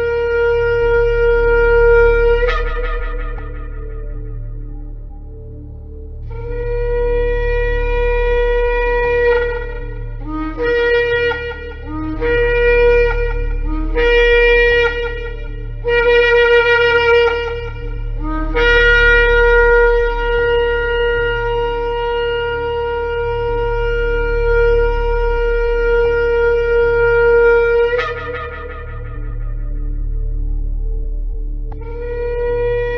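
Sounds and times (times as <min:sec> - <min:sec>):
low steady hum: 0:00.0 - 0:32.9
shofar horn blasts: 0:00.0 - 0:32.9.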